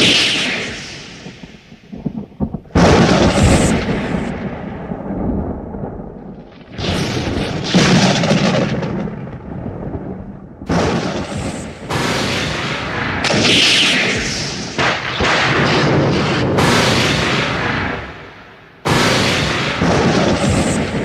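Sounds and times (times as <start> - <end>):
thunder cracks and rumble: 0.0 - 21.0.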